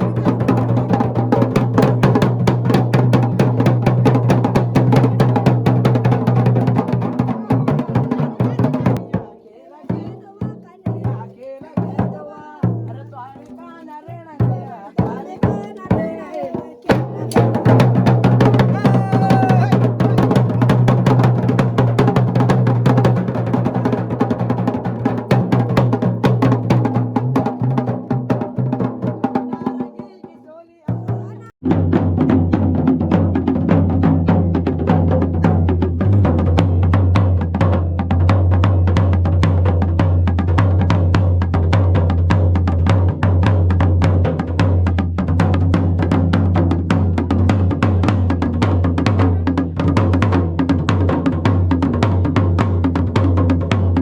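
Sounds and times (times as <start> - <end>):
drums in fast driving rhythm: 0.0 - 54.0.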